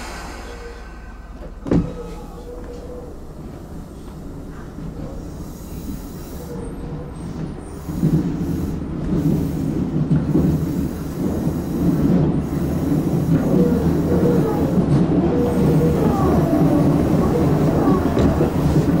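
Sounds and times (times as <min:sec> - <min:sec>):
electric train running on rails: 0:00.0 - 0:19.0.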